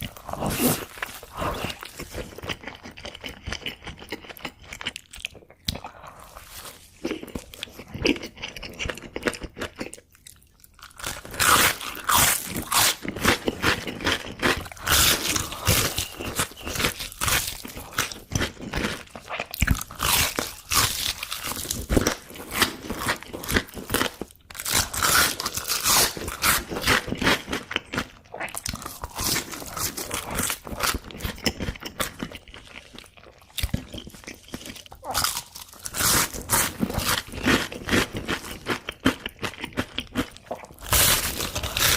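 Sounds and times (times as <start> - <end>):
crunchy food chewing: 0.0 - 41.9.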